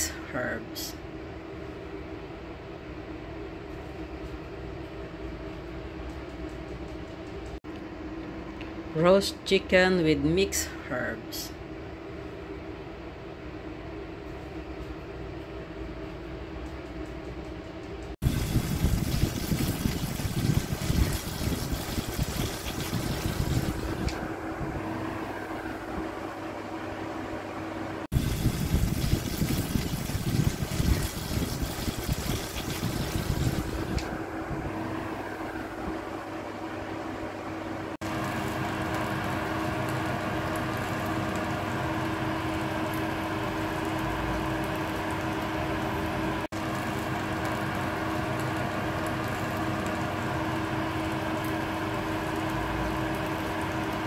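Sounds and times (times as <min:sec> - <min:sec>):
oven fan humming: 0:00.0 - 0:54.0.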